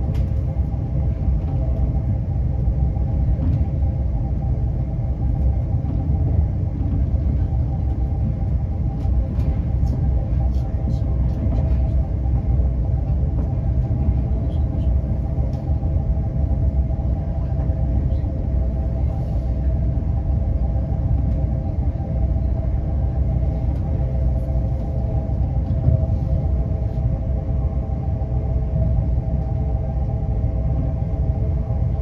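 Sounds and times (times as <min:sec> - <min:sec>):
constant train hum: 0:00.0 - 0:32.0
train wheels rumbling on rail: 0:00.0 - 0:32.0.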